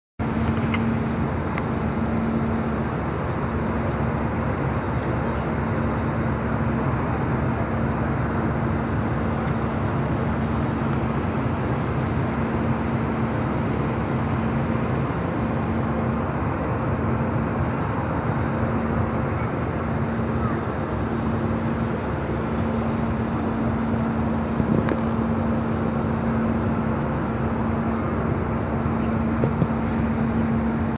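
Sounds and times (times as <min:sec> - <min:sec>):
airliner cabin roar: 0:00.2 - 0:30.9
steady low hum: 0:00.2 - 0:30.9.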